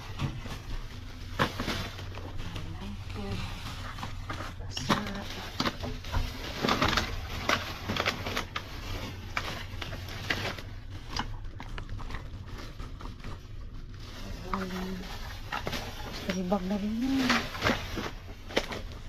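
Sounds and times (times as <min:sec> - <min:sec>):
plastic bags crinkling: 0:00.0 - 0:19.0
steady low hum: 0:00.0 - 0:19.0.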